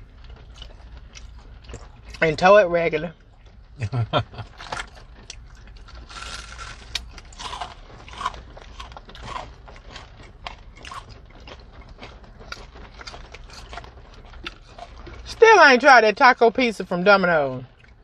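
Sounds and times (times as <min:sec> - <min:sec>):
chewing and crunching fried food: 0:00.0 - 0:18.0.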